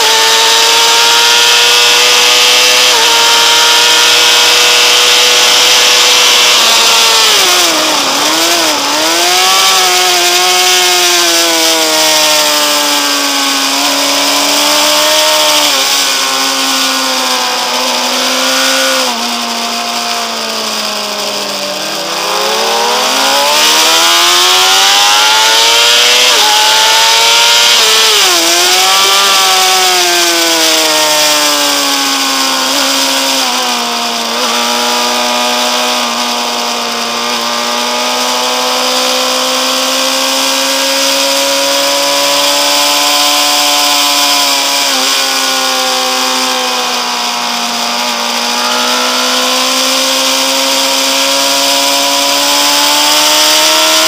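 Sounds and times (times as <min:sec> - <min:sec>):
sport bike engine revving: 0:00.0 - 0:54.0.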